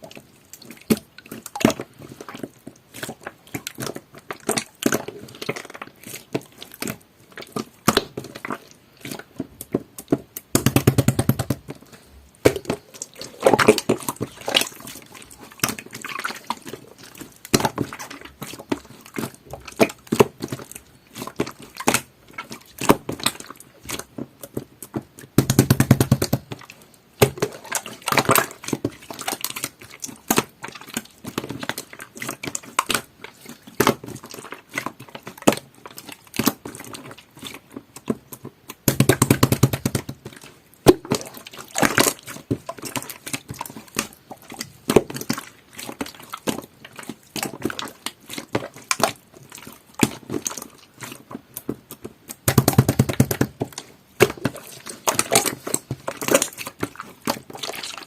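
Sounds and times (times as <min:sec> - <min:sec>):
slime squishing: 0:00.0 - 0:58.0.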